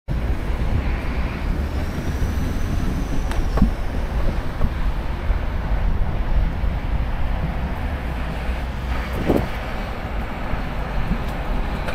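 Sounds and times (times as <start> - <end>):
road and tyre noise: 0.1 - 11.9
wind rumbling on microphone: 0.1 - 11.9.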